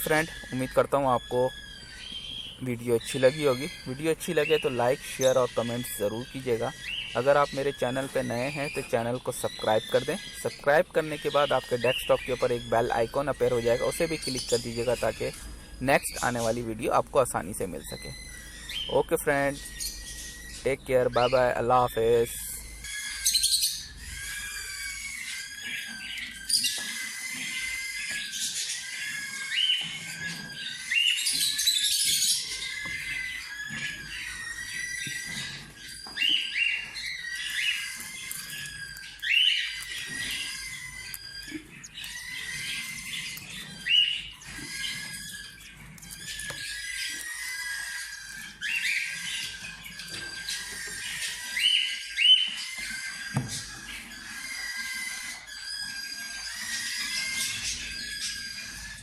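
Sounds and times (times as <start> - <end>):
cockatiels chirping: 0.0 - 59.0.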